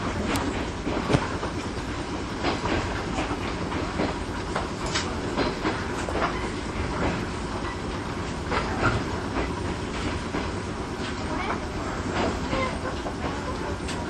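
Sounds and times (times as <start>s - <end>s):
train rumble: 0.0s - 14.0s
wheels clicking over rail joints: 0.1s - 14.0s.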